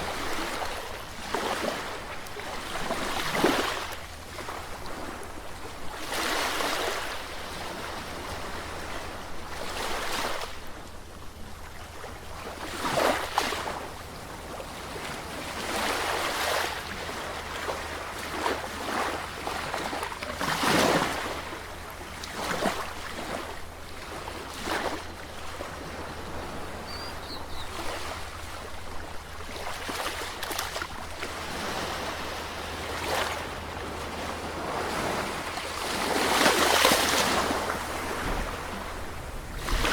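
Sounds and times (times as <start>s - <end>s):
sea waves breaking on shore: 0.0s - 10.8s, 11.6s - 39.9s.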